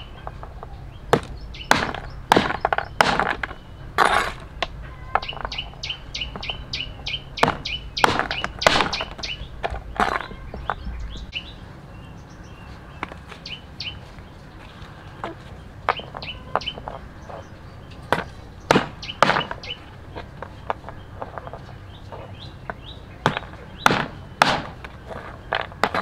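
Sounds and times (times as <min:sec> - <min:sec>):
cleaver chopping fruit: 0:00.0 - 0:10.8, 0:15.2 - 0:26.0
small bird chirping: 0:00.0 - 0:25.8.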